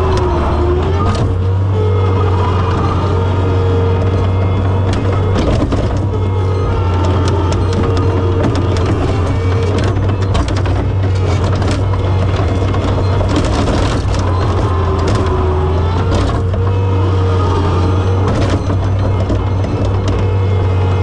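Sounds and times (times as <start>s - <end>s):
skid steer engine whining: 0.0s - 21.0s.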